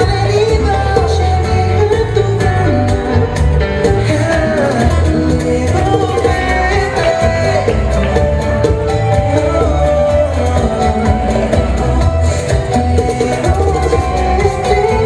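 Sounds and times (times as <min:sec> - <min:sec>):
latin dance music: 0:00.0 - 0:15.0
person singing: 0:00.0 - 0:15.0.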